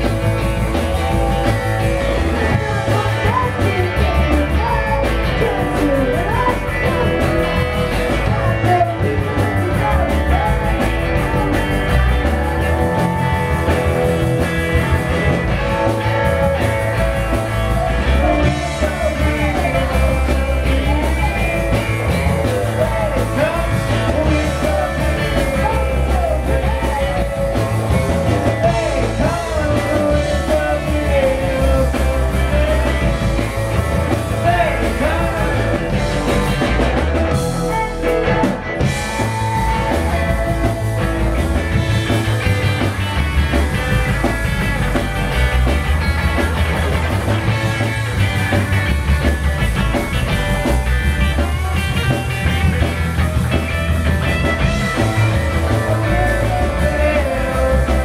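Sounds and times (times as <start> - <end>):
drum kit: 0.0 - 58.0
electric guitar: 0.0 - 58.0
upright double bass: 0.0 - 58.0.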